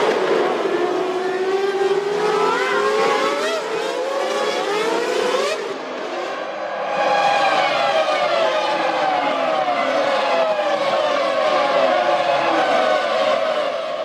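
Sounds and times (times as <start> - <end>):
racing car engines at high revs: 0.0 - 14.0.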